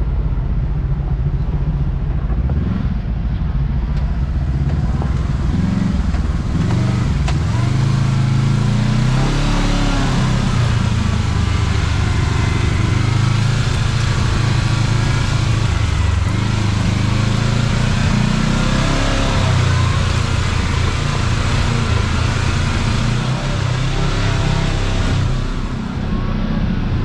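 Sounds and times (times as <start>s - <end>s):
vehicle engine driving: 0.0s - 27.0s.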